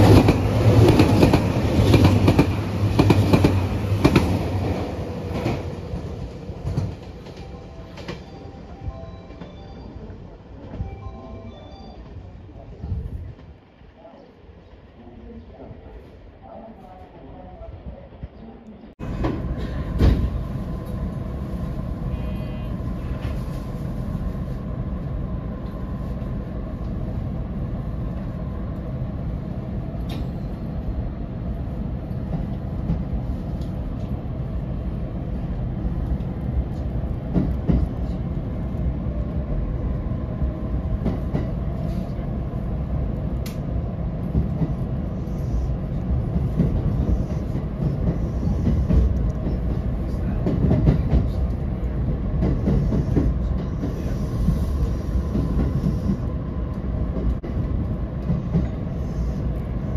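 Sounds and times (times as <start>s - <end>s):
train rumbling ride noise: 0.0s - 59.9s.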